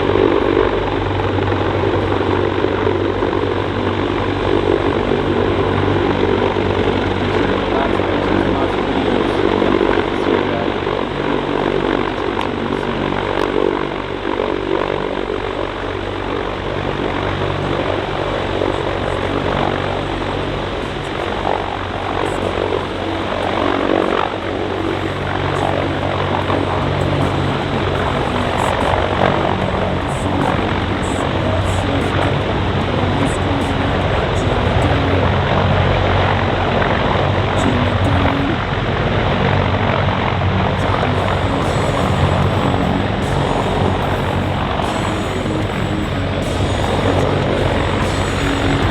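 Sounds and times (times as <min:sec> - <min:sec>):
helicopter rotor beat: 0:00.0 - 0:48.9
turbine noise: 0:00.0 - 0:48.9.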